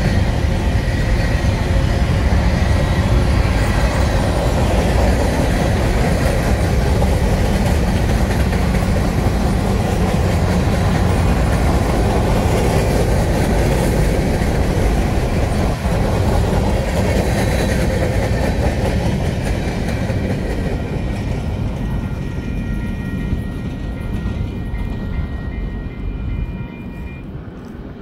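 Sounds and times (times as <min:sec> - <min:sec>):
freight train wheels on rail: 0:00.0 - 0:28.0.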